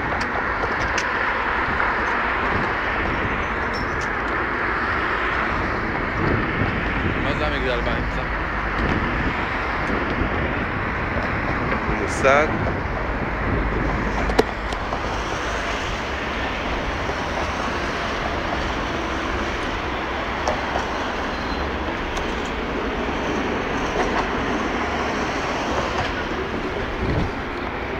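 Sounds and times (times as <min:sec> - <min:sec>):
traffic rumble and hiss: 0:00.0 - 0:27.9.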